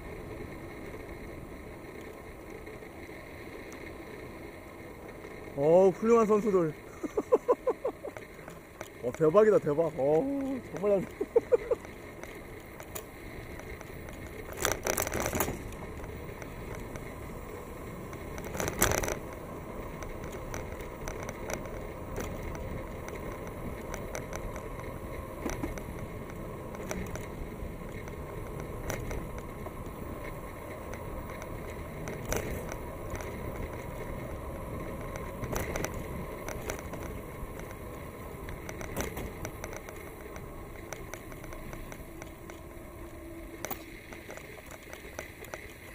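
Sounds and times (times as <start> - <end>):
bicycle clicking and rattling: 0.0 - 45.9
bicycle tyres rolling on pavement: 0.0 - 45.9.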